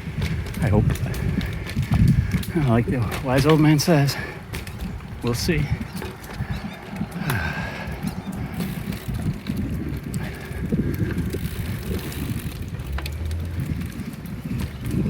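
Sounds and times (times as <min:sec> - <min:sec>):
wind and tyre rumble: 0:00.0 - 0:15.0
faint clicks: 0:00.2 - 0:15.0.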